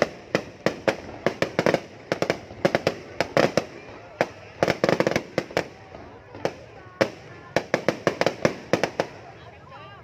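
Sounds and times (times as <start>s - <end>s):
fireworks bangs and cracks: 0.0s - 9.4s.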